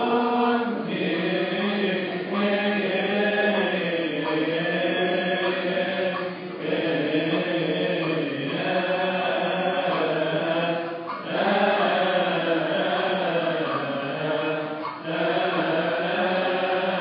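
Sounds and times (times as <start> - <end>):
congregation singing a chant: 0.0 - 17.0.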